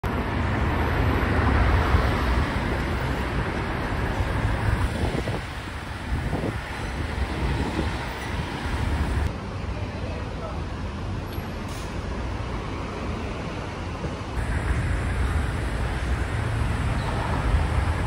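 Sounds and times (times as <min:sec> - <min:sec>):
cars driving past: 0:00.0 - 0:09.4, 0:11.0 - 0:18.0.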